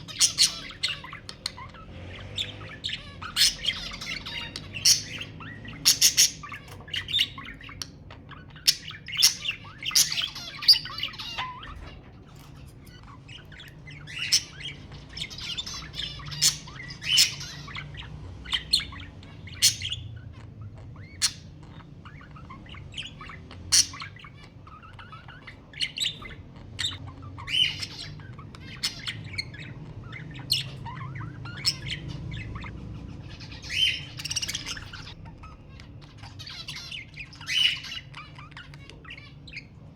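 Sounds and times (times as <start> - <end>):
bird chirps and squawks: 0.0 - 39.9
budgerigars chattering and warbling: 0.0 - 39.9.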